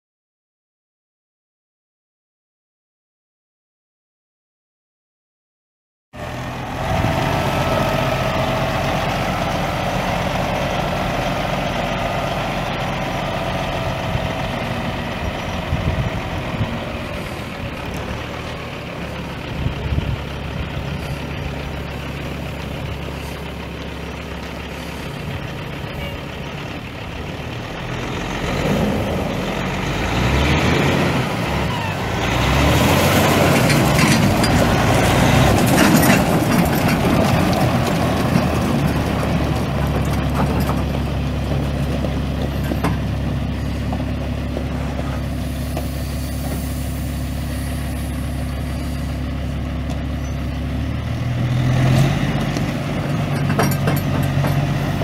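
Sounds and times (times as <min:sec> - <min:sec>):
truck diesel engine idling: 0:06.2 - 0:55.0.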